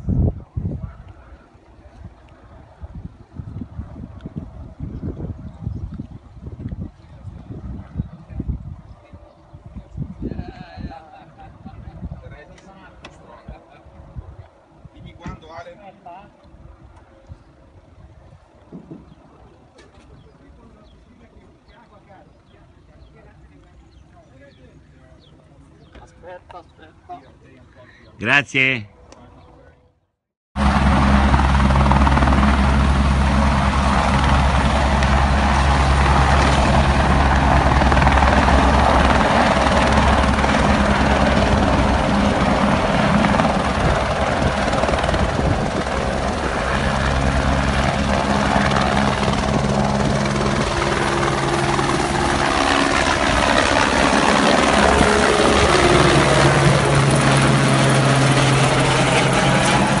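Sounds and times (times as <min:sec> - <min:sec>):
helicopter rotor and engine: 0:00.8 - 0:23.4, 0:30.6 - 1:00.0.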